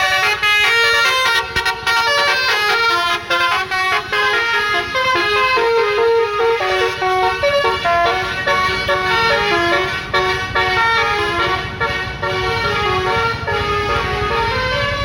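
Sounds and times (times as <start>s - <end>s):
bus horn playing a tune: 0.0s - 15.0s
low rumble of bus: 0.0s - 15.0s.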